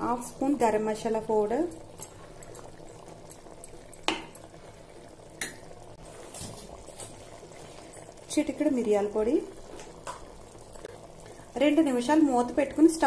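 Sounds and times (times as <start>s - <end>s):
pot simmering with low hiss: 0.0s - 13.0s.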